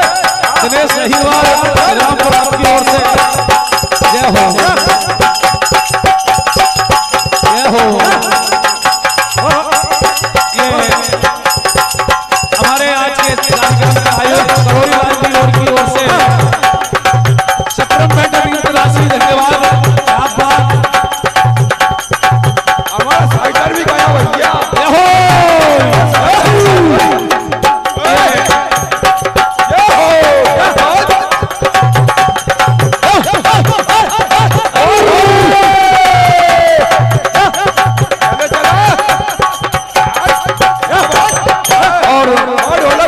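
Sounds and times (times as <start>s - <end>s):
devotional music: 0.0s - 43.0s
hand drum beating: 0.0s - 43.0s
jingling hand percussion: 0.0s - 43.0s.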